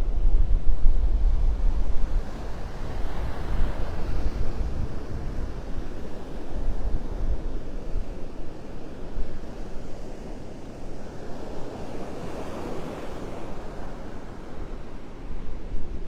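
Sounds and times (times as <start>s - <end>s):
wind buffeting microphone: 0.0s - 16.0s
surf washing on beach: 0.1s - 16.0s.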